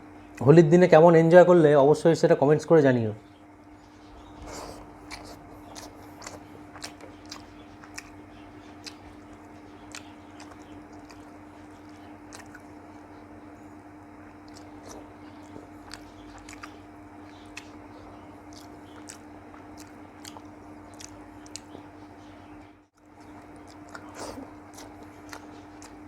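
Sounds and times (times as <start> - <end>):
low electrical hum: 0.0 - 26.0
close chewing with mouth clicks: 3.8 - 26.0.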